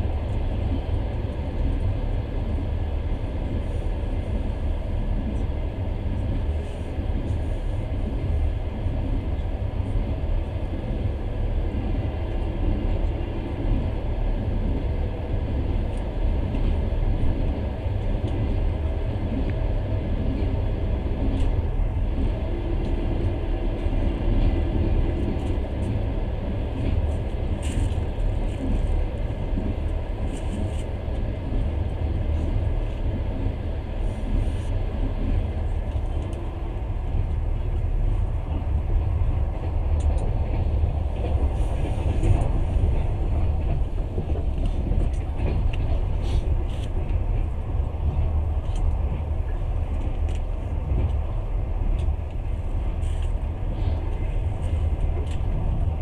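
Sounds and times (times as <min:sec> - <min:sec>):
train rumbling on rails: 0:00.0 - 0:56.0
trains passing alongside: 0:00.0 - 0:56.0.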